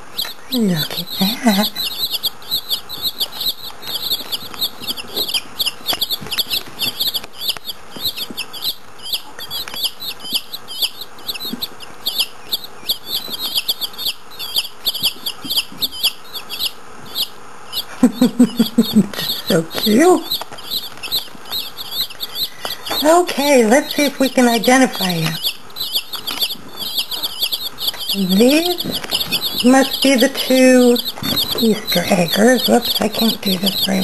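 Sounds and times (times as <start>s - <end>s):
chicks cheeping: 0.0s - 34.0s.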